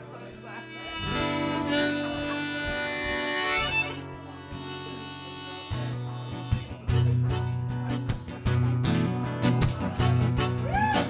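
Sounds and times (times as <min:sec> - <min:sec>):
harmonica playing chords: 0:00.2 - 0:11.0.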